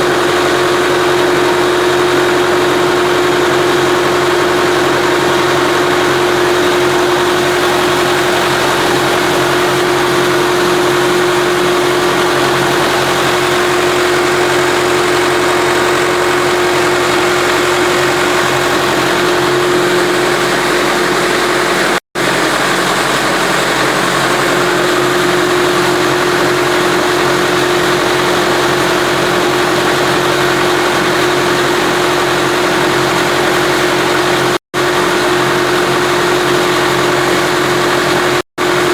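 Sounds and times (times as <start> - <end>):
steady high pump tone: 0.0 - 38.9
tractor engine running: 0.0 - 38.9.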